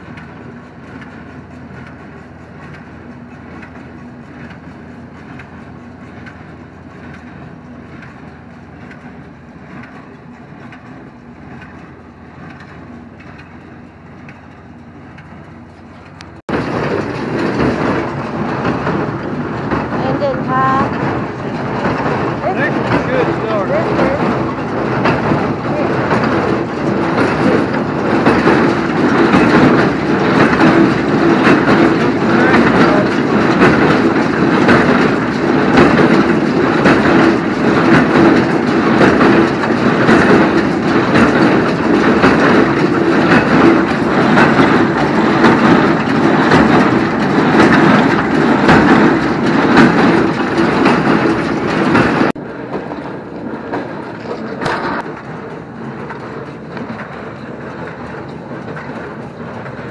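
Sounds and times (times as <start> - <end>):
hay baler clattering: 0.0 - 59.9
tractor engine running: 0.0 - 59.9.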